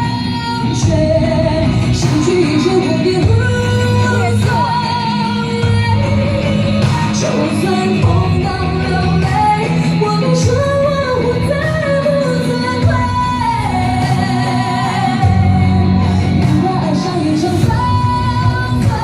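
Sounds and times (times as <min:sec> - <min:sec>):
amplified instrumental accompaniment: 0:00.0 - 0:19.0
woman singing pop ballad: 0:00.0 - 0:19.0.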